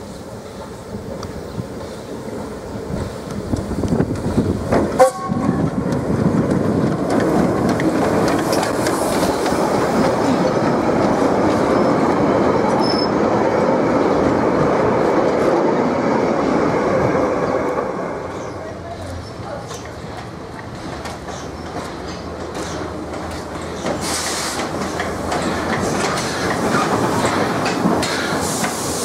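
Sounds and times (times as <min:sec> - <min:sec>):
train wheels clattering over rails: 0:01.0 - 0:16.0, 0:17.0 - 0:29.0.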